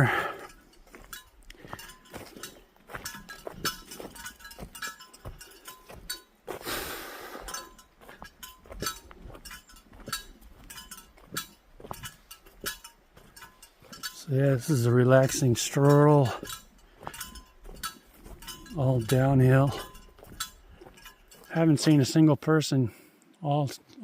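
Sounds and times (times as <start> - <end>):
metallic clinks of gear: 0.0 - 21.9
footsteps on forest trail: 0.0 - 22.2.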